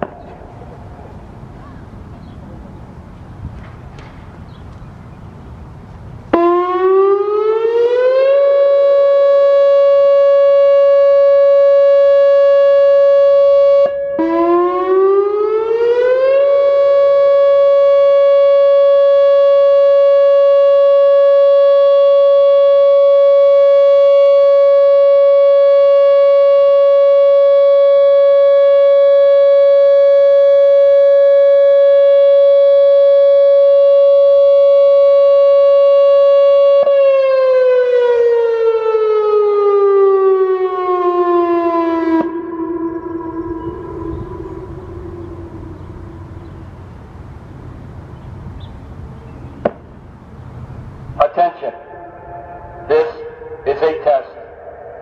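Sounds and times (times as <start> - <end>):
warning siren tone: 6.3 - 49.3, 51.2 - 55.0.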